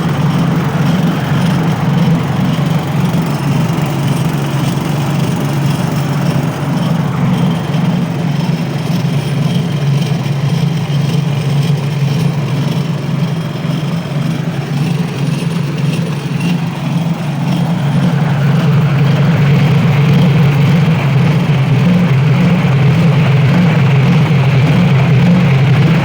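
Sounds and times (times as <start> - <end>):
petrol engine running steadily: 0.0 - 26.0.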